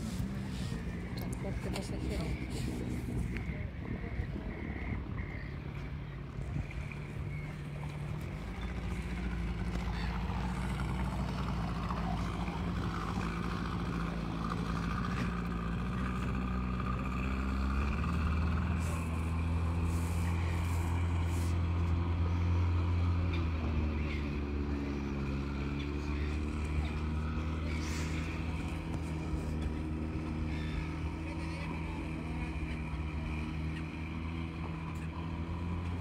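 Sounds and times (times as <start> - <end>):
outboard motor running: 0.0 - 36.0.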